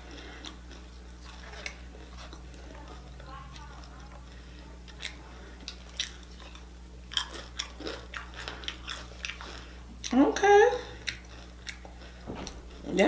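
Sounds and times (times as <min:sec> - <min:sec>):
chewing crunchy chips: 0:00.0 - 0:13.0.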